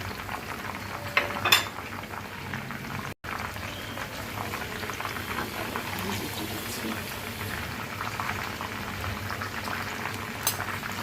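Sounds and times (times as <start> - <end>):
chicken deep-frying in hot oil: 0.0 - 11.0.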